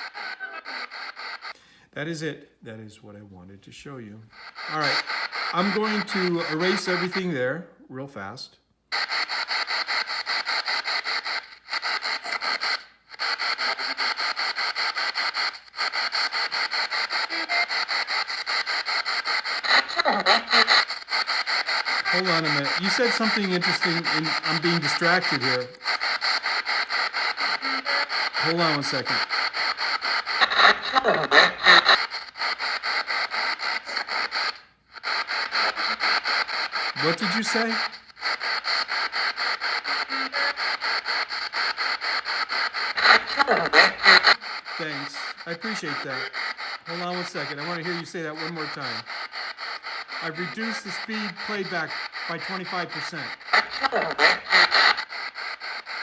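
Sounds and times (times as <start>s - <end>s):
radio scanning chopping static: 0.0s - 1.6s, 4.2s - 7.4s, 8.9s - 56.0s
snatches of broadcast voice: 0.0s - 56.0s.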